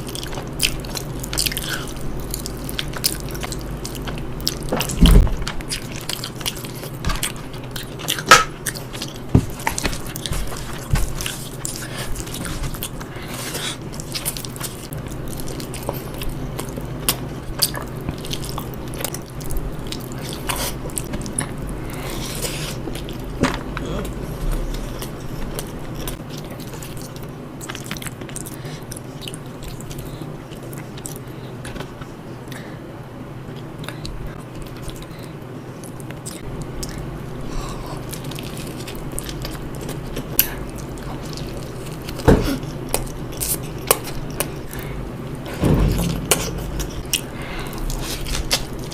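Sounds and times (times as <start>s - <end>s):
person chewing food: 0.0s - 32.8s, 33.5s - 48.9s.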